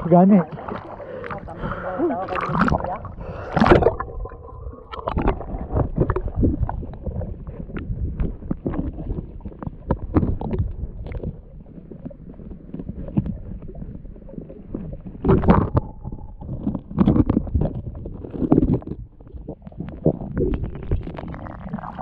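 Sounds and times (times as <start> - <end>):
muffled underwater water rumble: 0.0 - 22.0.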